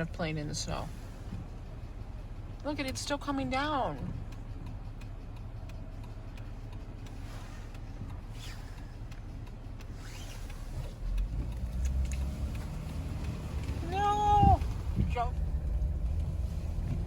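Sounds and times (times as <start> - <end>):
car driving heard from inside: 0.0 - 17.0.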